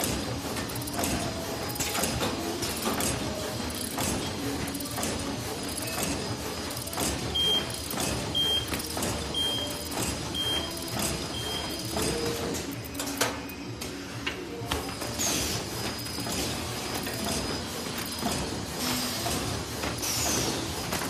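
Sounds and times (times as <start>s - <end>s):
bag making machine clattering: 0.0s - 21.0s.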